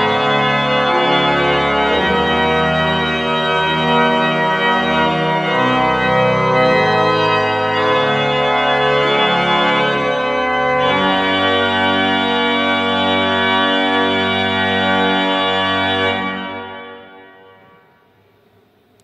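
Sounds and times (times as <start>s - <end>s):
organ playing hymn chords: 0.0s - 18.1s.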